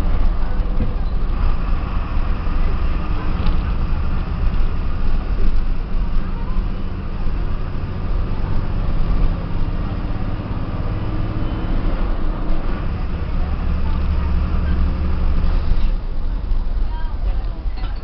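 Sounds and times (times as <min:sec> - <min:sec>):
bus diesel engine drone: 0:00.0 - 0:18.0
road noise: 0:00.0 - 0:18.0.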